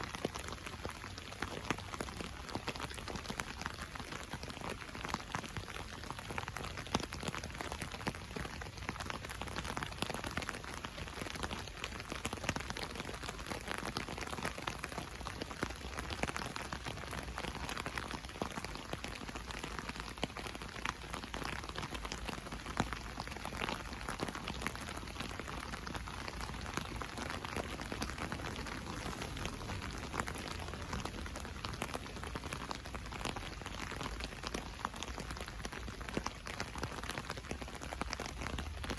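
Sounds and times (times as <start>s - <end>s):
rain pattering on umbrella: 0.0s - 38.9s
rain hiss: 6.6s - 38.9s.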